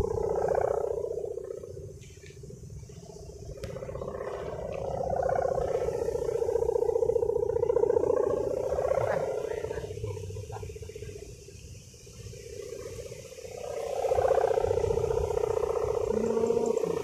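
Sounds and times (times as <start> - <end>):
kite hummer buzzing: 0.0 - 17.0.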